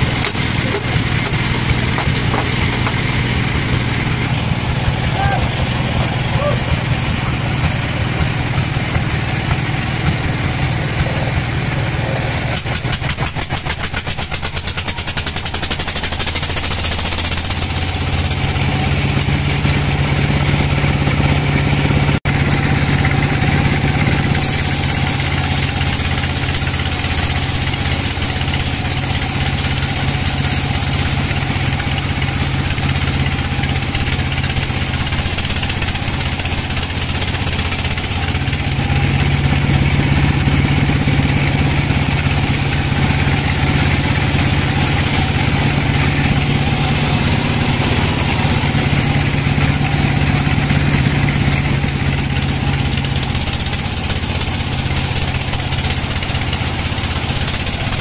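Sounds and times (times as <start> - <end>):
band blade cutting log: 0.0 - 20.3, 24.3 - 58.0
sawmill motor humming: 0.0 - 58.0.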